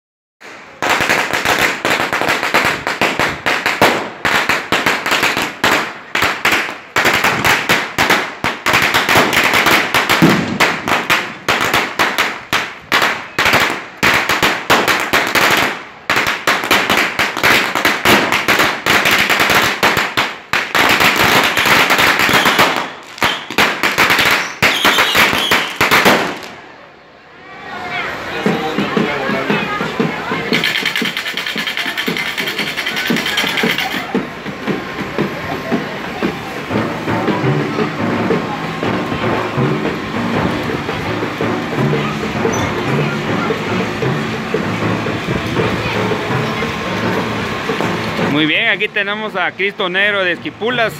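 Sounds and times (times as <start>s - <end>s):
firecrackers cracking and banging: 0.4s - 26.8s, 28.1s - 50.9s.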